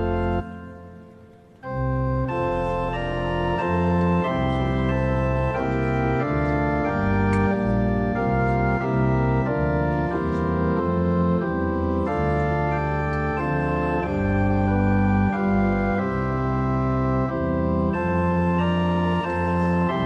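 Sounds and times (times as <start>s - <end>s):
pipe organ playing chords: 0.0s - 20.0s.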